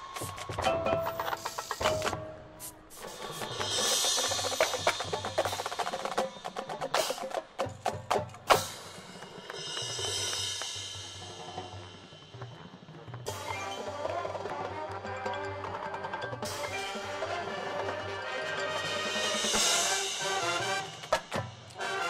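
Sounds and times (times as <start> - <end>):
percussion-driven background music: 0.0 - 22.0.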